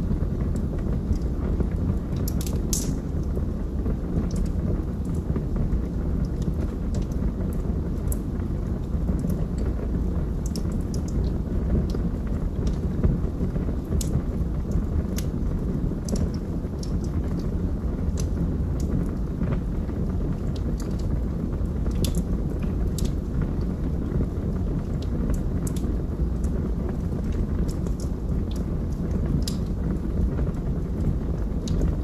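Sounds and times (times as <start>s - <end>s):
fire flames rumbling: 0.0s - 32.0s
logs crackling and popping: 0.0s - 32.0s.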